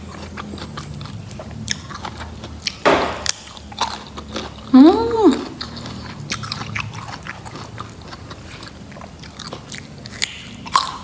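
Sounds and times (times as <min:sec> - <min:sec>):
crunchy chewing: 0:00.0 - 0:04.7, 0:05.3 - 0:11.0.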